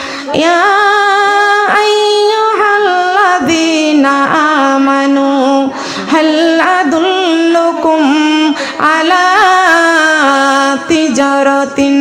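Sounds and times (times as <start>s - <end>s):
woman chanting melodic recitation: 0.2s - 12.0s.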